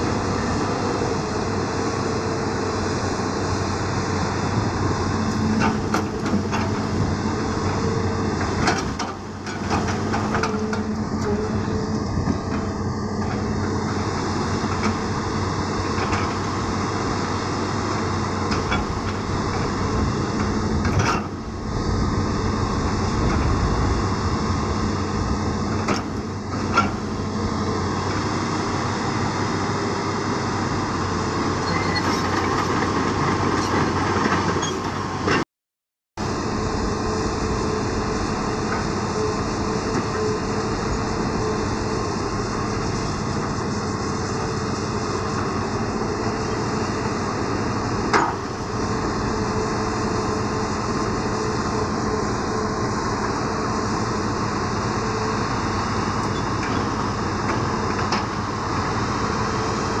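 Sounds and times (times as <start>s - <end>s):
excavator diesel engine running: 0.0s - 35.4s, 36.2s - 60.0s.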